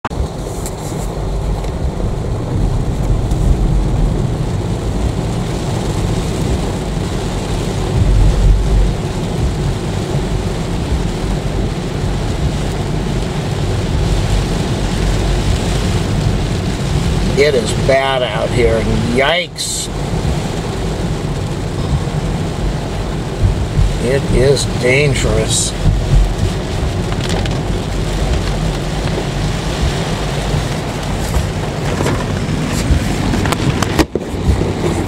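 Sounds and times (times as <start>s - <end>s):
road and cabin rumble: 0.0s - 35.0s
heavy rain on a car: 0.1s - 35.0s.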